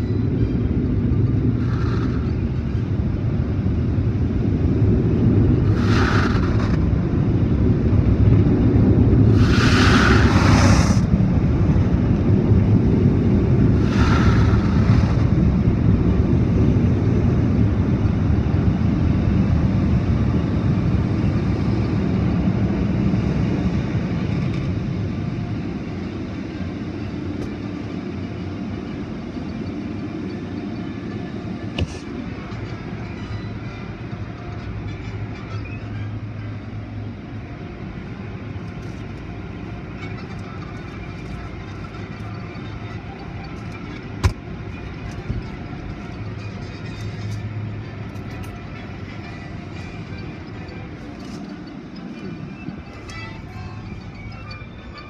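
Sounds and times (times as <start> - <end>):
car wash machinery rumble: 0.0 - 55.0.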